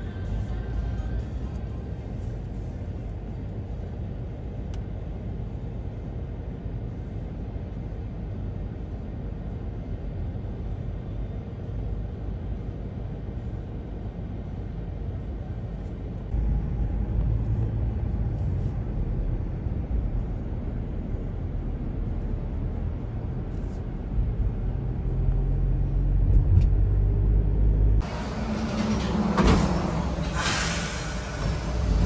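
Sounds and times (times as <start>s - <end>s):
car cabin engine and road noise: 0.0s - 32.0s
streetcar running noise: 0.0s - 32.0s.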